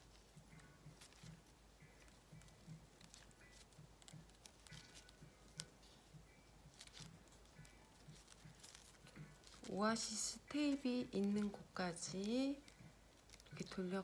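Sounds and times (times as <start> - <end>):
ribbon rustling: 0.0 - 14.0.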